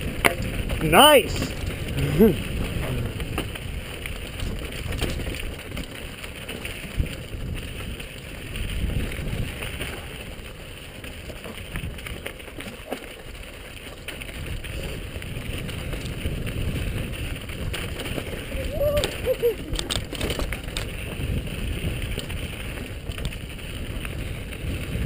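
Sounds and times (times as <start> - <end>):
bike knocking on rocks: 0.0 - 1.9, 2.6 - 25.0
bike rattling: 0.0 - 25.0
bike tyres on rocky trail: 0.0 - 25.0.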